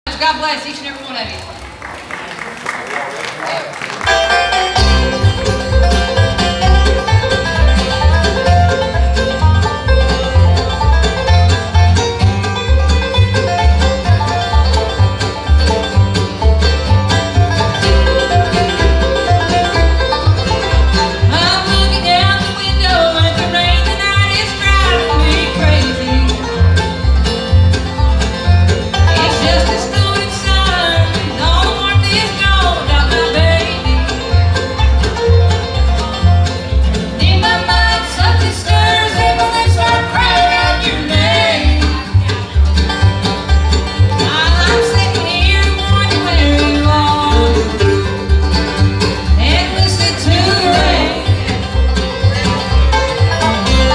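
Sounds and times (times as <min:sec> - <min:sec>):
bluegrass band playing: 0:00.1 - 0:53.9
banjo: 0:03.8 - 0:53.9
sliding melody line: 0:04.0 - 0:53.9.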